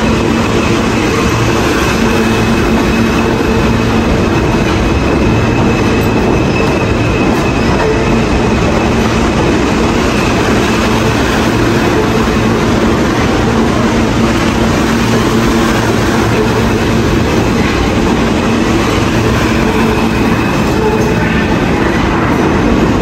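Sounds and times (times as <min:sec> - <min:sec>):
train motor hum: 0:00.0 - 0:23.0
train wheels rumbling on rail: 0:00.0 - 0:23.0.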